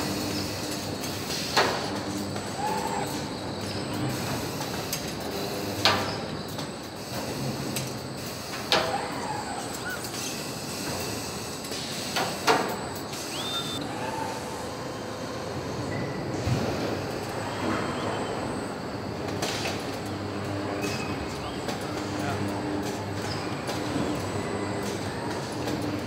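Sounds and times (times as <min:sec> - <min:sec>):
machinery hum: 0:00.0 - 0:26.0.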